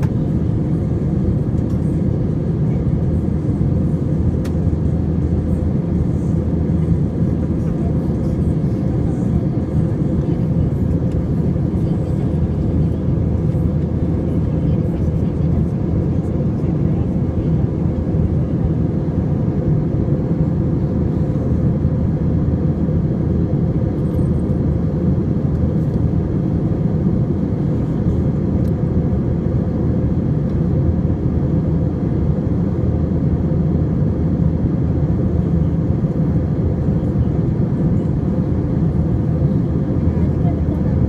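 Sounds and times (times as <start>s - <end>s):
airliner cabin engine rush: 0.0s - 41.0s.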